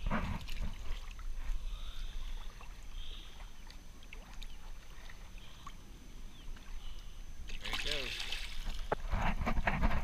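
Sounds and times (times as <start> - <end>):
shallow water sloshing: 0.0 - 10.0.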